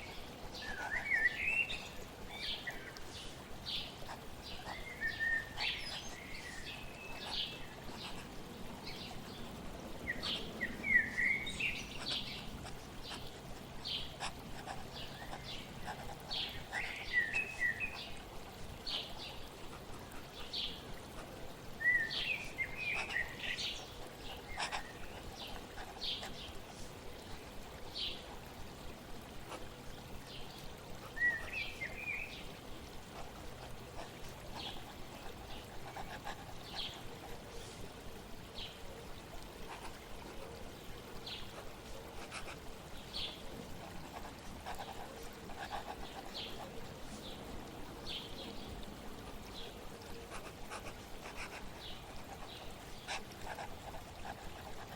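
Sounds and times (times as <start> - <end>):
birds chirping: 0.0 - 28.5, 29.6 - 54.9
water trickling: 0.0 - 54.9.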